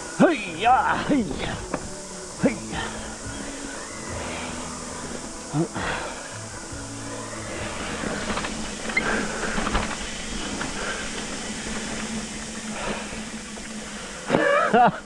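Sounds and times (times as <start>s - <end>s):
bike tyres on dirt trail: 0.0s - 15.0s
steady low hum: 0.0s - 15.0s.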